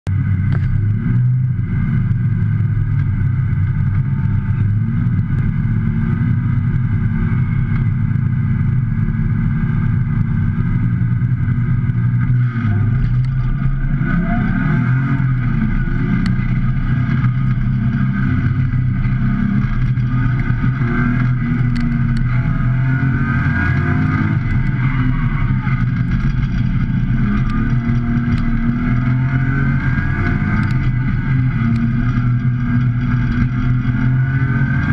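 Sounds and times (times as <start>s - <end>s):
car engine heard from cabin: 0.1s - 34.9s.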